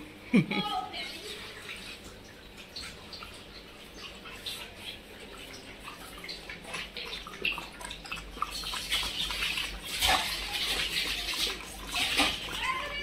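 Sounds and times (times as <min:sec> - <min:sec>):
dogs lapping from plastic bowl: 0:00.9 - 0:13.0.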